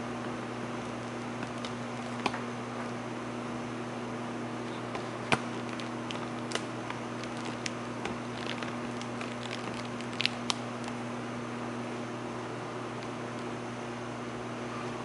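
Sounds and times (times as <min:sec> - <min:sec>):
electrical hum: 0:00.0 - 0:15.0
fan hiss: 0:00.0 - 0:15.0.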